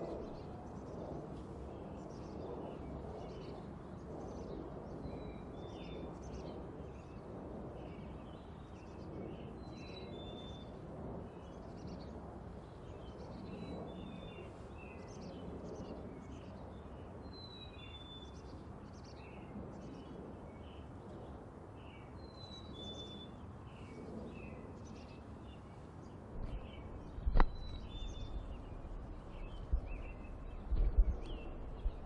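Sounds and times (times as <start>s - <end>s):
low outdoor background noise: 0.0s - 32.0s.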